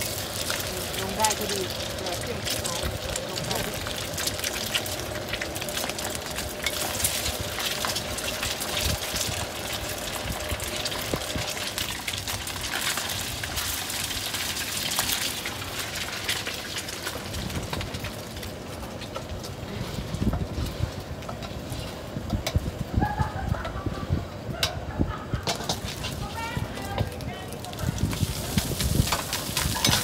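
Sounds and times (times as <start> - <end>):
batter sizzling in hot oil: 0.0 - 23.0, 25.4 - 26.6, 27.6 - 30.0.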